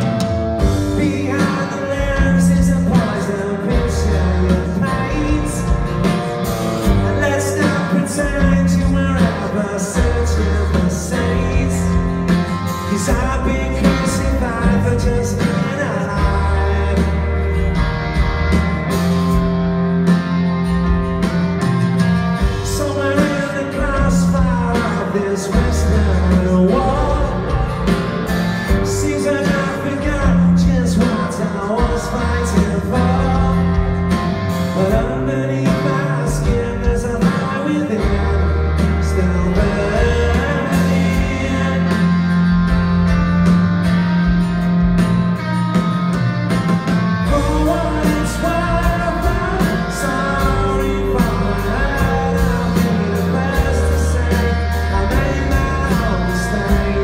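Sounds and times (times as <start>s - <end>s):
live rock band playing: 0.0s - 57.0s
man singing lead vocal: 0.7s - 17.9s, 22.4s - 43.2s, 47.2s - 57.0s.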